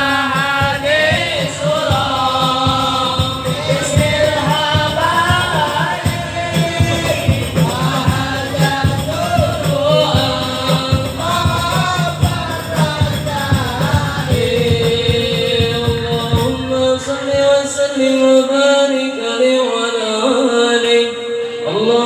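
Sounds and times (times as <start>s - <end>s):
frame drums: 0.0s - 17.7s
men singing: 0.0s - 22.0s.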